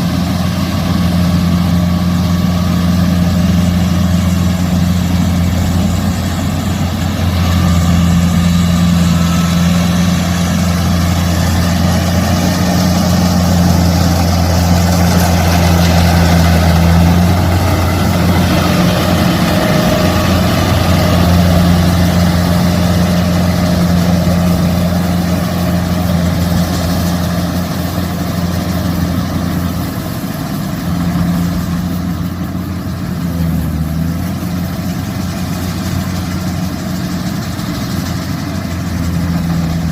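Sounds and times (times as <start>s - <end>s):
diesel engine low hum: 0.0s - 39.9s.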